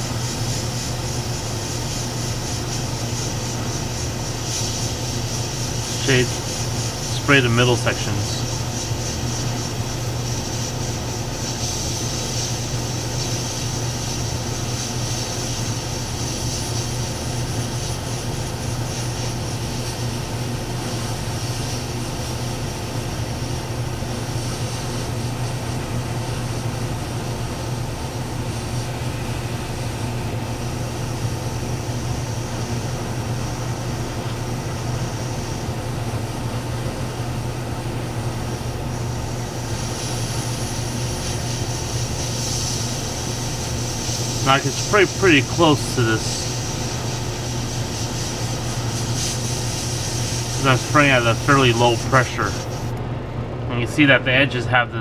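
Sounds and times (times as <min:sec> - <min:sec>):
airbrush spraying hiss: 0:00.0 - 0:53.0
air compressor hum: 0:00.0 - 0:55.0.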